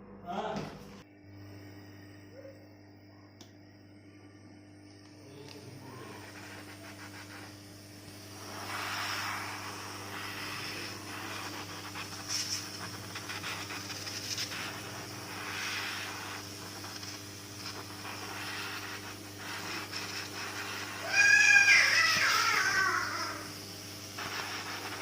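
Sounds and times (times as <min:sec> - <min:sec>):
low electrical hum: 0:00.0 - 0:25.0
hissing crackling noise: 0:05.0 - 0:25.0.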